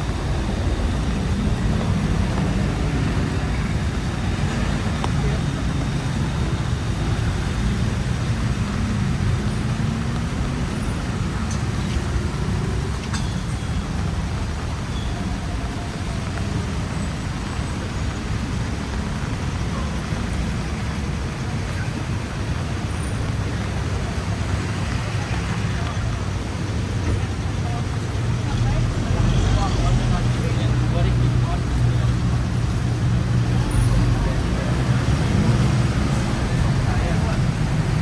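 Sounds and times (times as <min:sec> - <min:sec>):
city traffic rumble: 0:00.0 - 0:38.0.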